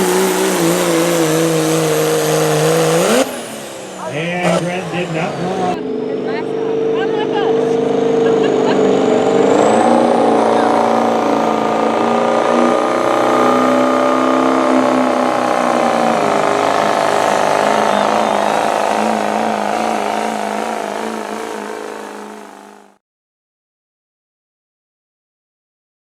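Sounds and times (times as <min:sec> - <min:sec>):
diesel truck engine at high revs: 0:00.0 - 0:23.0.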